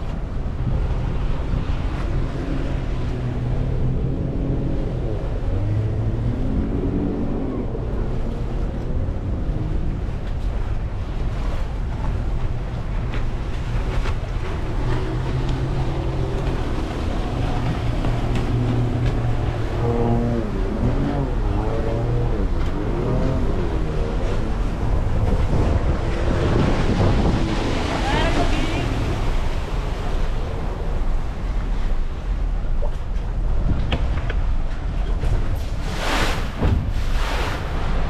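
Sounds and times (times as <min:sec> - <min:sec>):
boat engine droning: 0:00.0 - 0:38.0
water splashing past hull: 0:00.0 - 0:38.0
wind buffeting microphone: 0:00.0 - 0:38.0.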